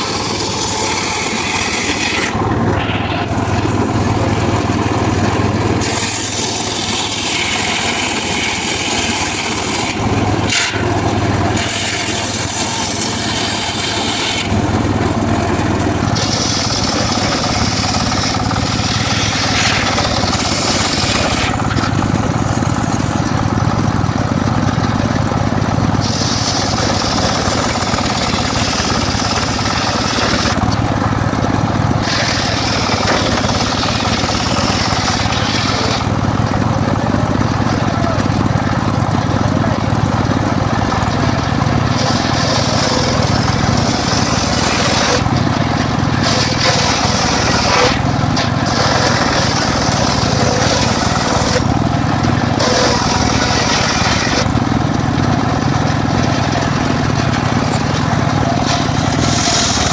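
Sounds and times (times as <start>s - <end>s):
circular saw cutting wood: 0.0s - 59.9s
engine droning: 0.0s - 59.9s.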